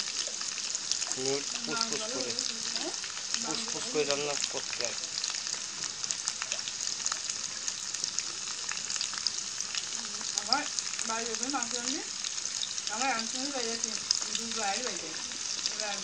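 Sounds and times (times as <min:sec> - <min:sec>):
potatoes frying in oil: 0:00.0 - 0:16.0.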